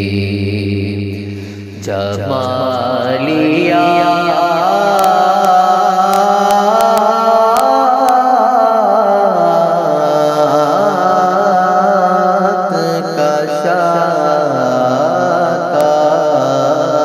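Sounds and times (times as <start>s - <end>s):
man singing long held notes: 0.0s - 17.0s.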